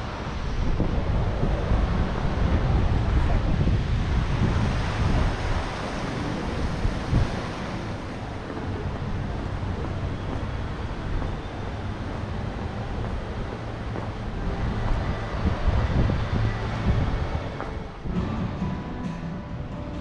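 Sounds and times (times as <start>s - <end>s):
wind on camera microphone: 0.0s - 18.3s.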